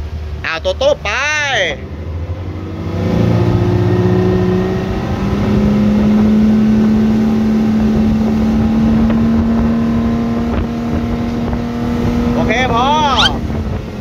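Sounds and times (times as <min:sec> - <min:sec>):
outboard engine under throttle: 0:00.0 - 0:14.0
wind and water rush: 0:00.0 - 0:14.0.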